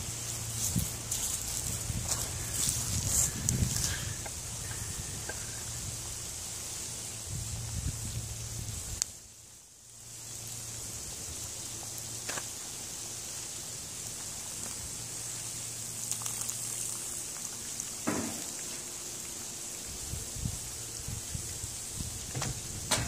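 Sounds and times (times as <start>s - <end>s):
fish sizzling in hot oil: 0.0s - 23.0s.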